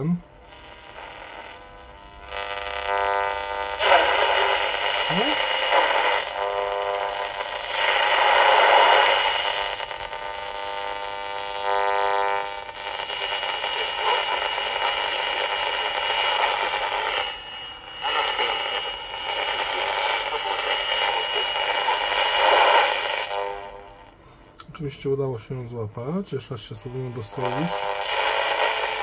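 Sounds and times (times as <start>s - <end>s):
buzzing whine of steady tones: 0.0s - 29.0s
radio static hiss and crackle: 0.0s - 29.0s.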